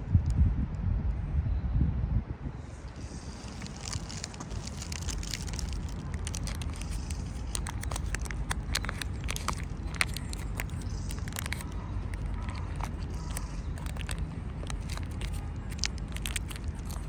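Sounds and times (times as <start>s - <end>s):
low steady rumble: 0.0s - 17.0s
squirrel gnawing and crunching: 2.9s - 17.0s.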